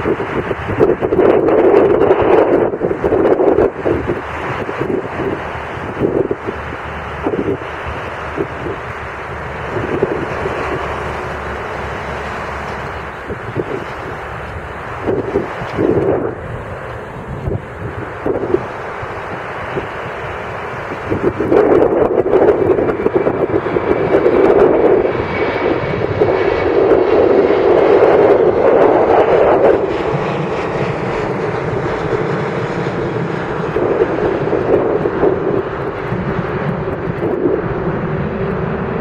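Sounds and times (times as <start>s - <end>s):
jet engines at takeoff: 0.0s - 39.0s.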